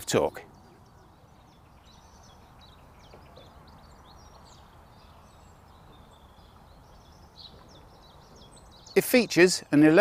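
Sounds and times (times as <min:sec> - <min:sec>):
faint birdsong chirps and trills: 0:00.0 - 0:10.0
low outdoor background noise: 0:00.0 - 0:10.0.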